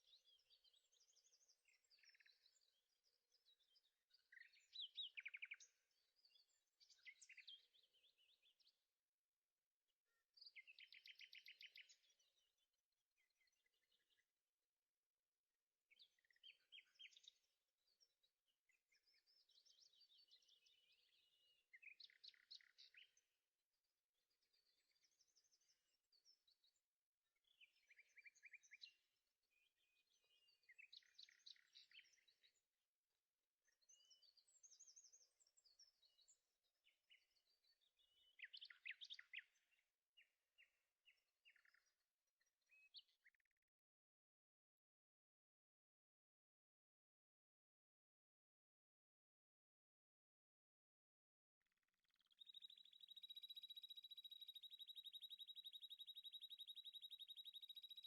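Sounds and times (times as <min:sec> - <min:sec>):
faint birdsong chirping: 0:00.0 - 0:46.9, 0:49.2 - 0:58.0.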